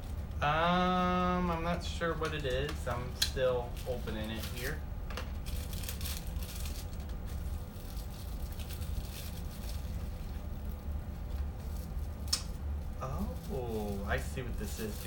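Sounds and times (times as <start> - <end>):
steady low hum: 0.0 - 15.0
paper wrapping crinkling: 0.7 - 15.0.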